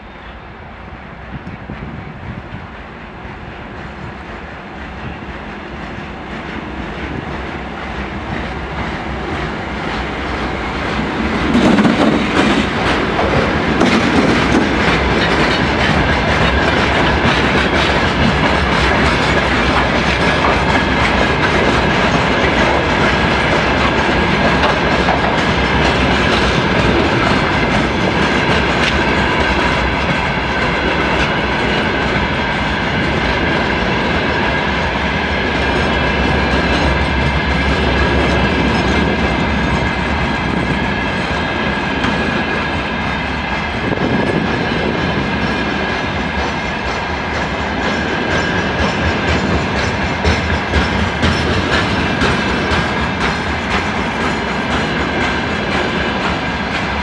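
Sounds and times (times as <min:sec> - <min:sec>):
wheels clickety-clack over rail joints: 0:01.4 - 0:57.0.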